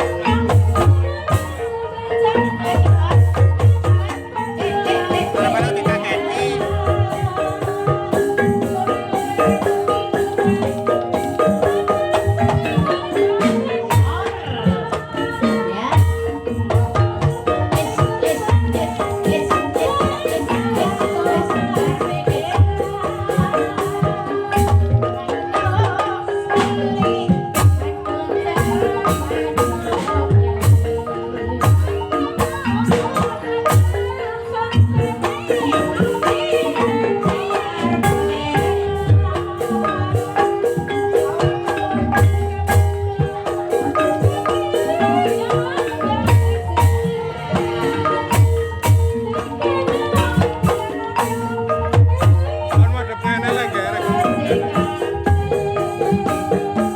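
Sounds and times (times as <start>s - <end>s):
person singing: 0.0s - 11.0s, 17.7s - 56.9s
mallet-struck keyed instruments: 0.0s - 56.9s.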